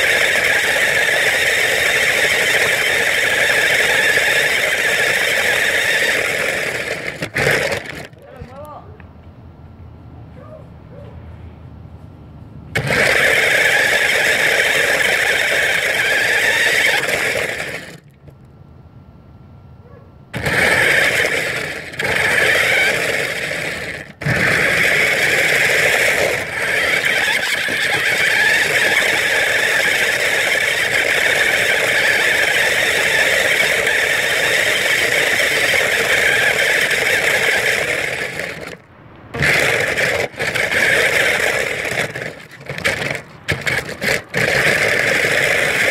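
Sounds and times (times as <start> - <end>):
toy car motors on gravel: 0.0 - 8.8, 12.7 - 18.4, 20.3 - 45.9.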